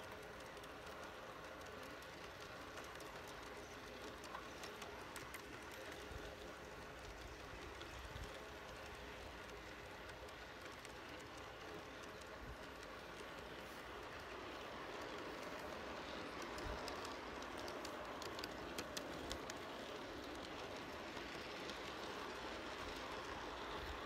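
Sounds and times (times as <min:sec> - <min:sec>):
model train wheels clicking: 0:00.0 - 0:24.0.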